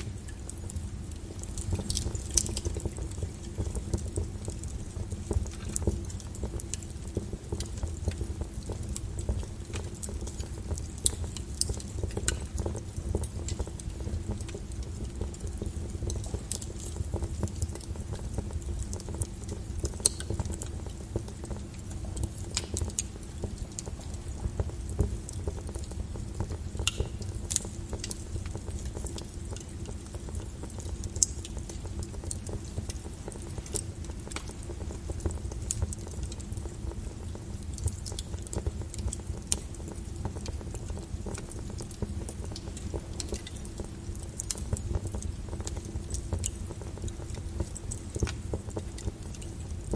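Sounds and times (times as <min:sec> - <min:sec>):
low steady rumble: 0:00.0 - 0:49.9
wood fire crackling: 0:00.0 - 0:49.9.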